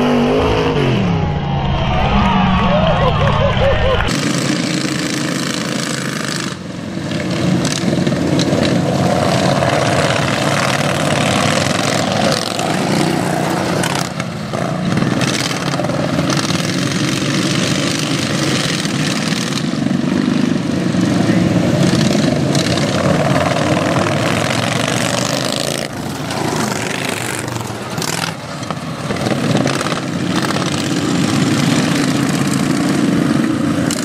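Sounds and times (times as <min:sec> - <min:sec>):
lawn tractor engines running hard: 0:02.8 - 0:34.0.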